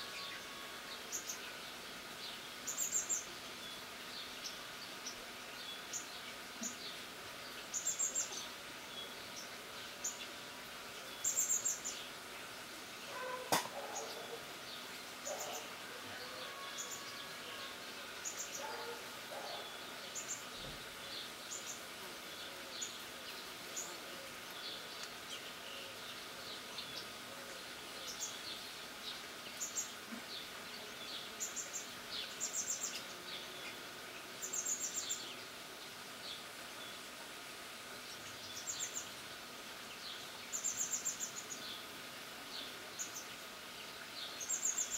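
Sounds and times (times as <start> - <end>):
faint steady background noise: 0.0 - 44.9
small birds chirping: 0.0 - 44.9.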